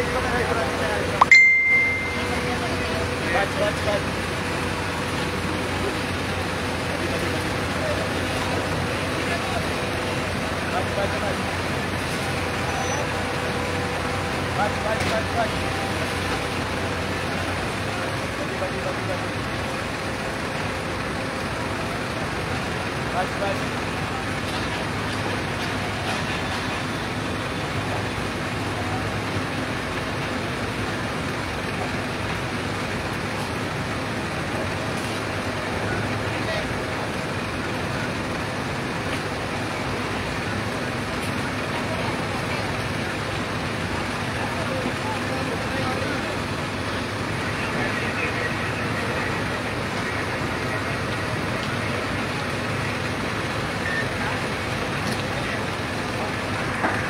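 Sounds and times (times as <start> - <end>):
faint voices: 0.0 - 57.0
truck engine humming: 0.0 - 57.0.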